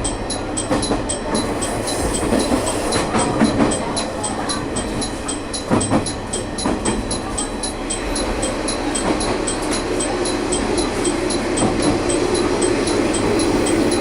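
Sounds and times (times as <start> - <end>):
fast even ticking: 0.0 - 14.0
train running noise: 0.0 - 14.0.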